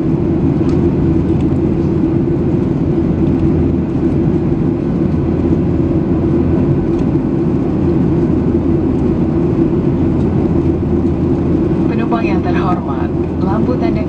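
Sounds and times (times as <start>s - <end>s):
airliner cabin engine roar: 0.0s - 14.0s
constant hum: 0.0s - 14.0s.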